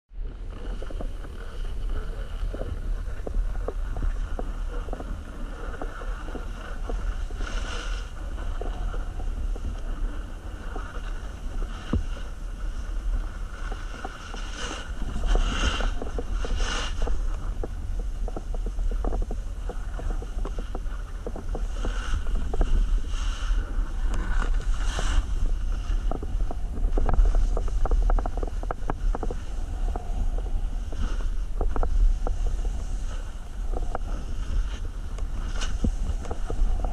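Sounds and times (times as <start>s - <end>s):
wind rumbling on microphone: 0.1s - 36.9s
skis scraping over snow: 0.4s - 36.9s.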